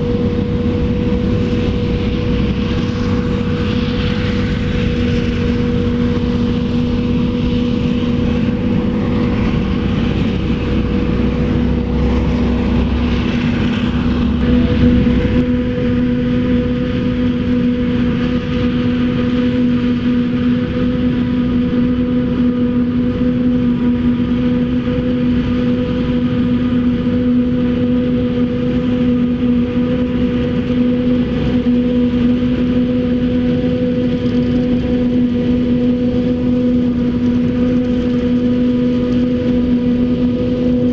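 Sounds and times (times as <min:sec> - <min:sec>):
farm machinery humming: 0:00.0 - 0:40.9.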